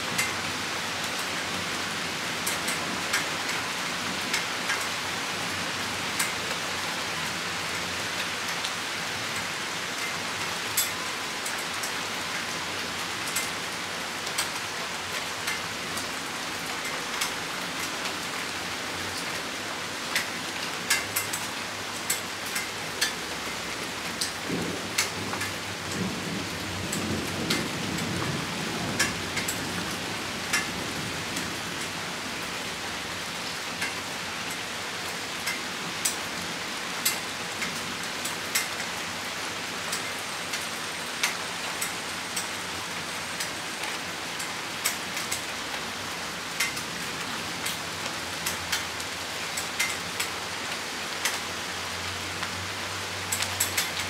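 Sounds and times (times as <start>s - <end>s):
rain hissing: 0.0s - 54.0s
raindrops ticking on surface: 0.0s - 54.0s.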